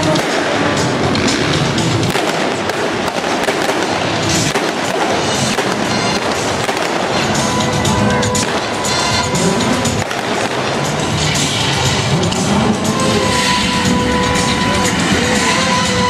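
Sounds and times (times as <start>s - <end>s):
loud music: 0.0s - 16.0s
pyrotechnic bangs and crackling: 0.0s - 16.0s.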